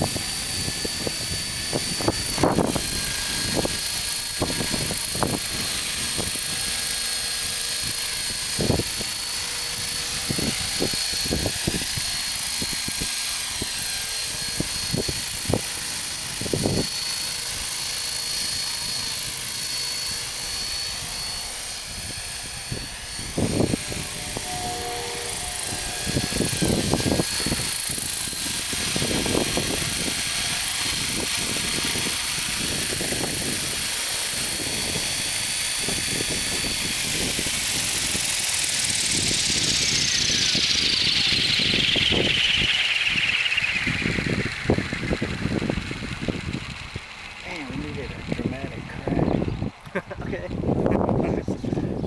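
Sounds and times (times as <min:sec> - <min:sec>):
model helicopter rotor whine: 0:00.0 - 0:52.0.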